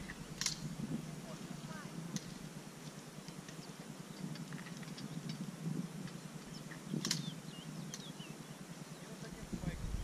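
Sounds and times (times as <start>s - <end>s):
faint outdoor background noise: 0.0s - 10.0s
small birds chirping: 0.0s - 10.0s.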